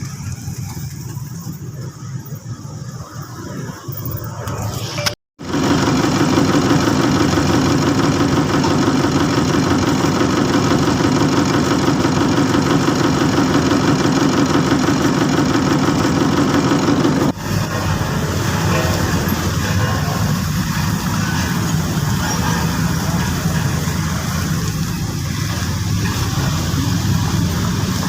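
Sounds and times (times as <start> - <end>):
heavy machinery engine chugging: 5.4 - 28.0.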